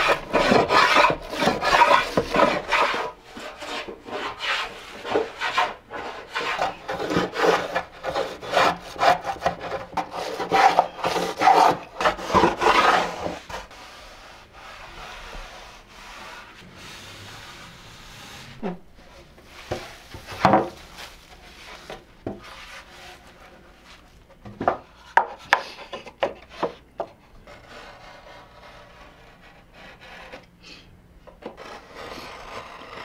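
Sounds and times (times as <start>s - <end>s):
wood scraping and rubbing: 0.0s - 26.8s.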